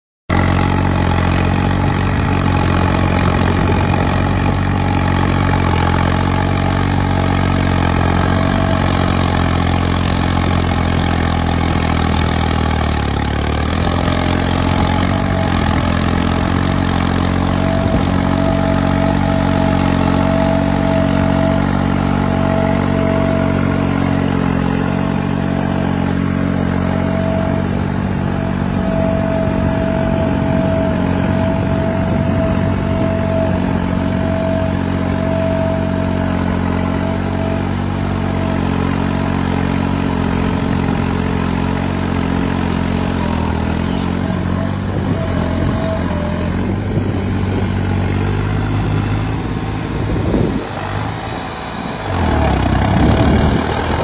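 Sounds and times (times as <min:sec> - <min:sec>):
tractor diesel engine running: 0:00.3 - 0:54.0.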